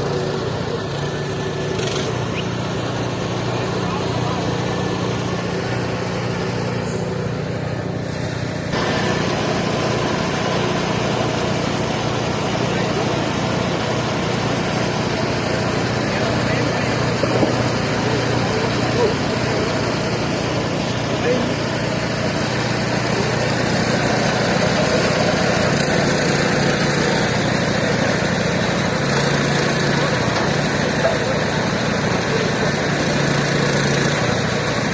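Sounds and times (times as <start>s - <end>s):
sawmill engine humming: 0.0s - 34.9s.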